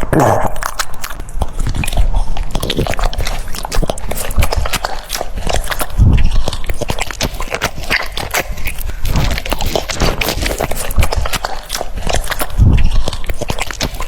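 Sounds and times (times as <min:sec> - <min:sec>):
dog crunching and chewing food: 0:00.0 - 0:14.0.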